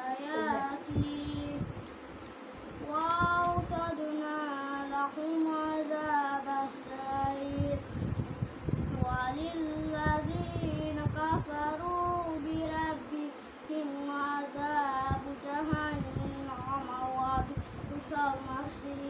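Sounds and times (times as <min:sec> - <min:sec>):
boy chanting recitation: 0:00.0 - 0:01.6, 0:02.8 - 0:07.8, 0:09.0 - 0:19.0.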